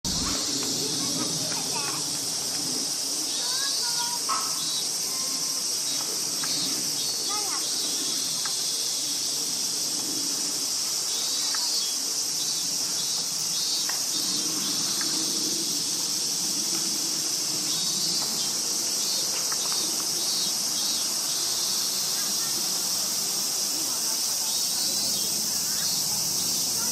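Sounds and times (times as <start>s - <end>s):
insects droning: 0.1s - 26.9s
pulsing insect trill: 0.1s - 26.9s.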